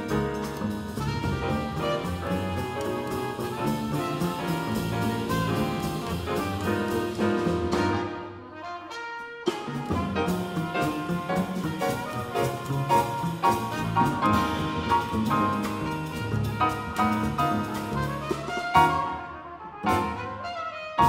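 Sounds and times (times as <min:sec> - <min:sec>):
double bass: 0:00.0 - 0:08.5, 0:09.4 - 0:21.0
drum kit: 0:00.0 - 0:21.0
piano: 0:00.0 - 0:21.0
trumpet melody: 0:00.0 - 0:21.0.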